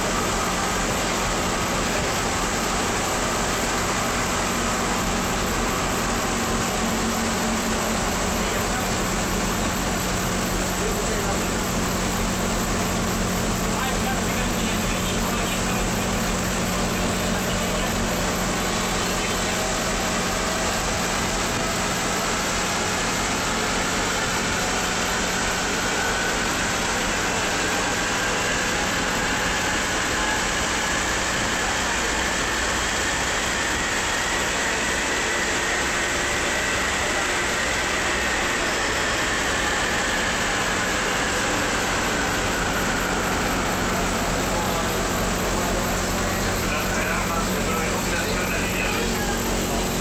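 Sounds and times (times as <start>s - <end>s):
train motor whine: 0.0s - 50.0s.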